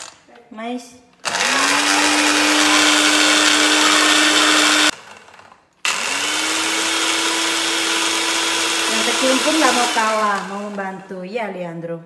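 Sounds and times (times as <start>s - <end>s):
blender motor whirring: 1.2s - 11.1s.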